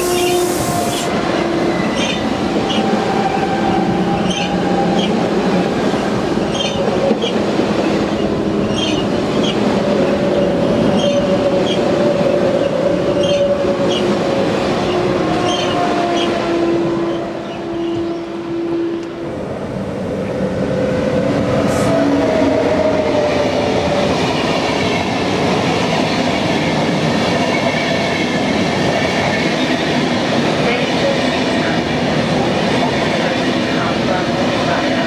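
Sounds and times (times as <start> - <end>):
train rolling noise: 0.0 - 35.0.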